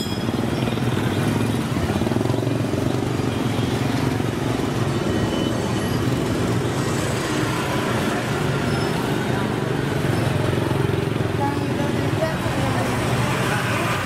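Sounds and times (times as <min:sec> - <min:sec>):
motorbike engines running: 0:00.0 - 0:14.0
street traffic hum: 0:00.0 - 0:14.0.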